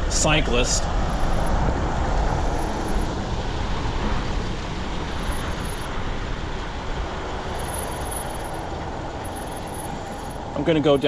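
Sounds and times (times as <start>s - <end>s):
heavy low rumble: 0.0s - 11.0s
tyre and road noise: 0.0s - 11.0s.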